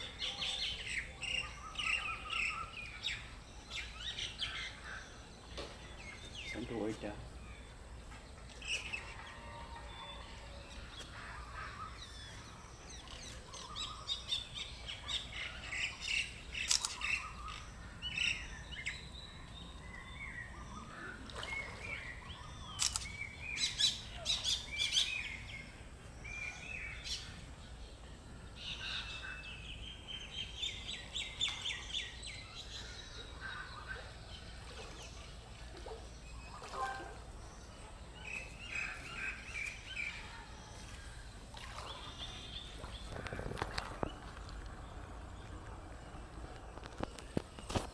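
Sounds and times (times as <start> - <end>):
birds chirping and singing: 0.0 - 47.9.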